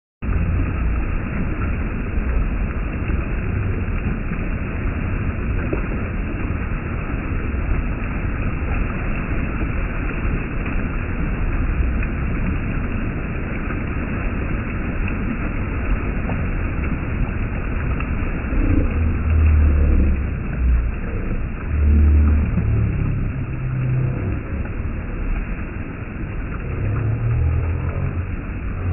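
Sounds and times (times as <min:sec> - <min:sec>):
stream water rushing over rocks: 0:00.2 - 0:28.9.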